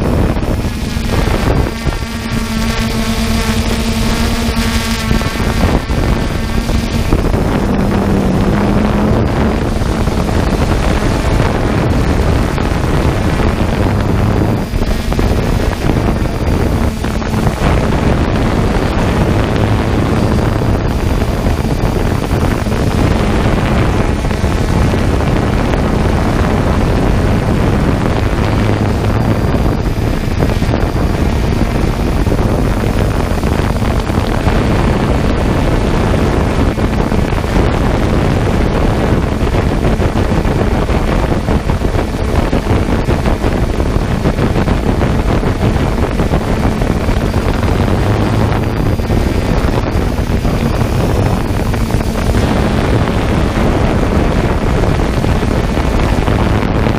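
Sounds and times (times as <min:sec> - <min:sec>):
drone motors and propellers humming: 0:00.0 - 0:56.9
wind buffeting microphone: 0:00.0 - 0:56.9.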